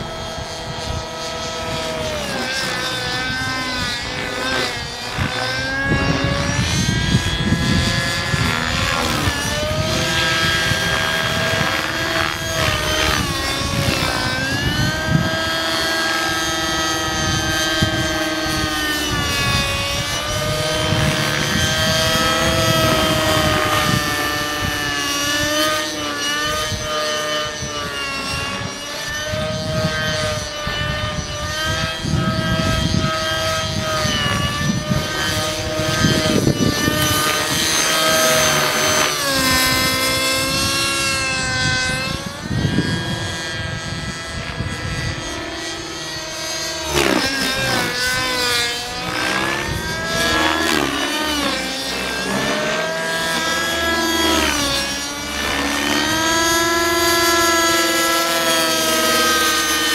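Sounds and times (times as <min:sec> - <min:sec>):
model helicopter engine whine: 0:00.0 - 0:59.9
rotor chop: 0:00.0 - 0:59.9.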